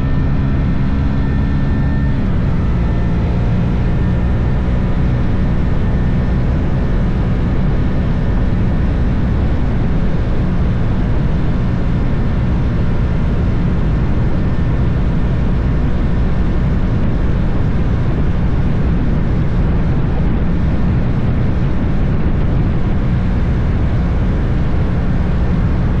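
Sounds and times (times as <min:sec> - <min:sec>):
motorcycle engine running: 0:00.0 - 0:26.0
noisy rush: 0:00.0 - 0:26.0.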